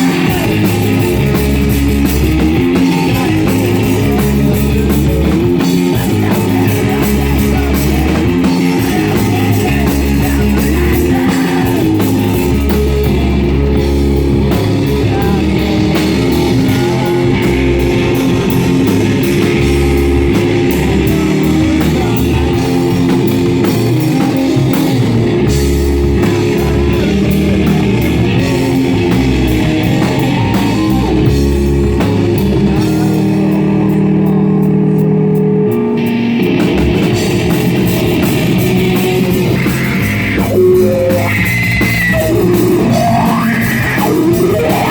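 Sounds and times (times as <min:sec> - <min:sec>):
bass notes: 0:00.0 - 0:44.9
drum kit: 0:00.0 - 0:44.9
electric guitar: 0:00.0 - 0:44.9.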